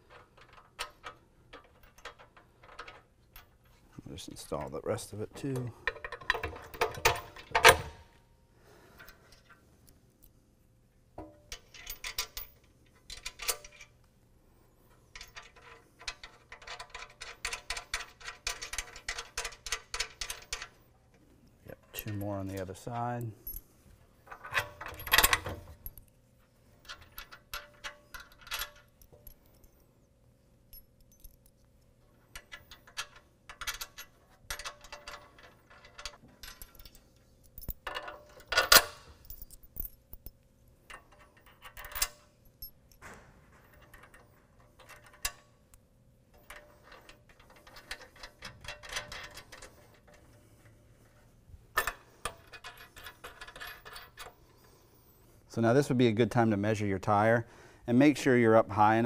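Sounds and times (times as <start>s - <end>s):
metal bolts and washers clinking: 0.0s - 8.2s, 11.2s - 14.1s, 14.9s - 29.9s, 30.6s - 54.8s.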